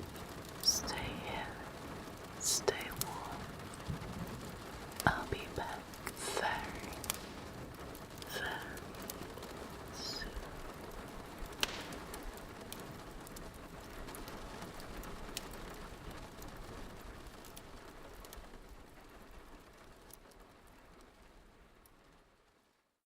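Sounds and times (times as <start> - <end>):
fireplace crackling: 0.0 - 23.0.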